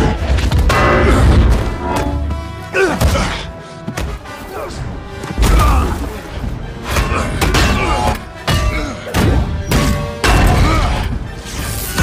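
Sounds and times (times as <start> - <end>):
dramatic orchestral score: 0.0 - 12.0.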